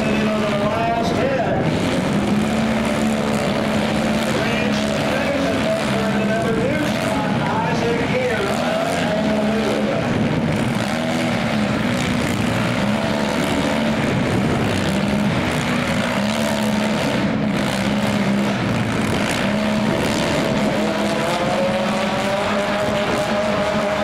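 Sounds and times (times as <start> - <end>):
car engines running: 0.0 - 24.0
engine revving: 0.0 - 24.0.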